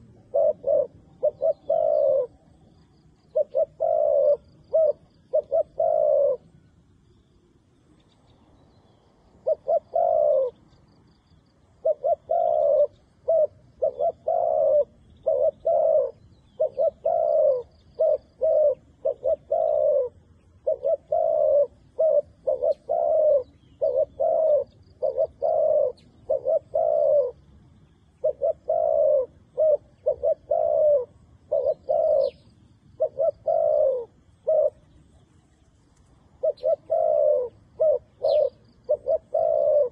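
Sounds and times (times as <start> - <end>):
dove cooing: 0.0 - 6.8, 9.3 - 39.9
faint high bird chirps: 0.0 - 39.9.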